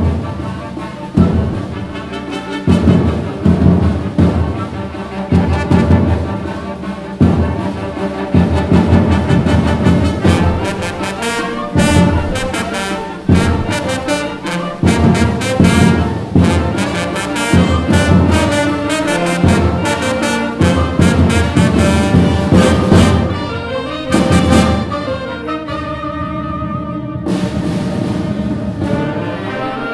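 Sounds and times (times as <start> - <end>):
brass: 0.0 - 29.9
concert band playing: 0.0 - 29.9.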